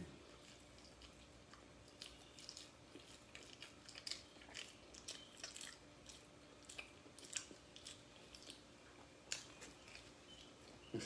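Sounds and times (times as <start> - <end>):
person chewing bread: 0.0 - 11.0.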